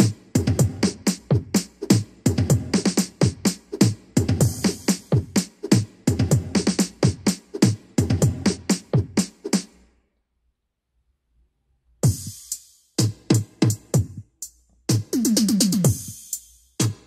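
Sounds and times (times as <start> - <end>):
snare and hi-hat hits: 0.0 - 9.9, 12.0 - 17.0.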